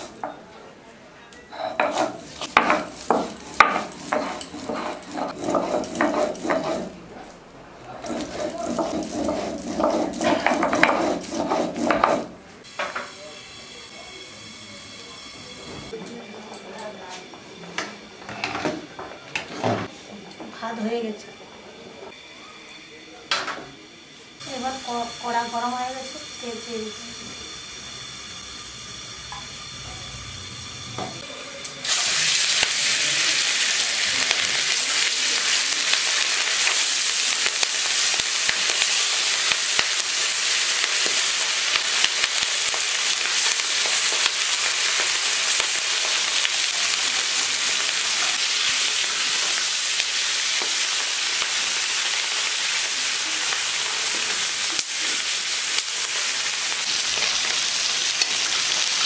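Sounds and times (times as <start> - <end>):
food sizzling in hot oil: 1.6 - 6.9, 8.1 - 16.0, 23.7 - 59.0.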